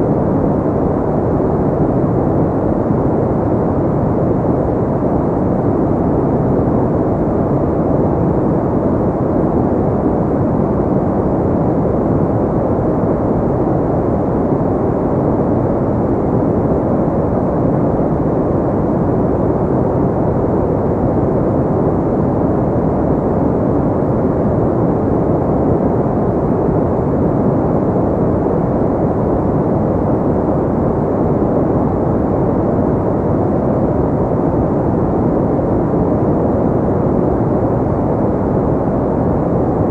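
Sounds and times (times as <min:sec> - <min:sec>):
steady pink noise: 0:00.0 - 0:39.9.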